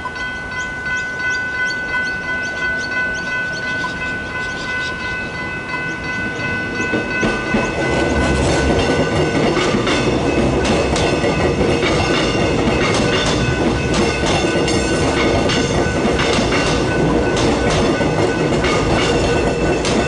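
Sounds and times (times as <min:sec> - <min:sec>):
level crossing warning bells: 0:00.0 - 0:20.0
train rumble: 0:00.0 - 0:20.0.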